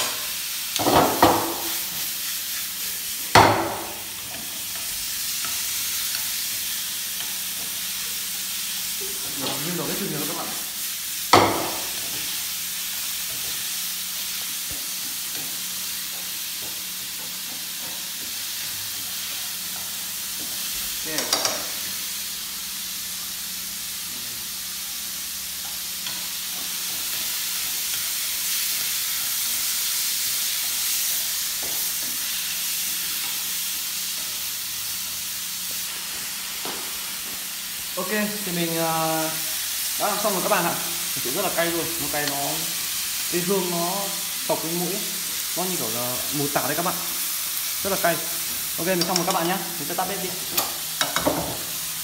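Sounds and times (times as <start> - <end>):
meat sizzling in a pan: 0.0 - 52.0.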